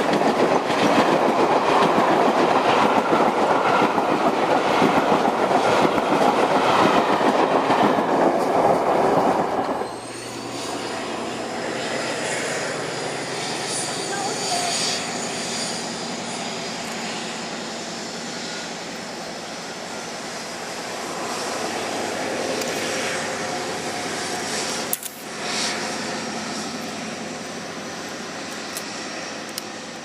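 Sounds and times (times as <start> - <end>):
diesel train rumbling past: 0.0 - 30.0.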